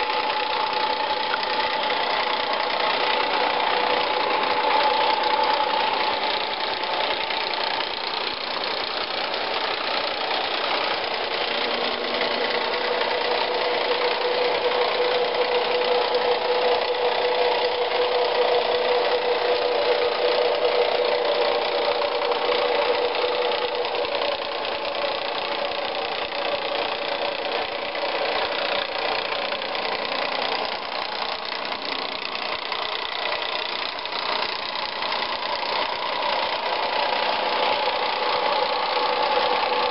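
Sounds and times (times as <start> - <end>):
model train motor whine: 0.0 - 39.9.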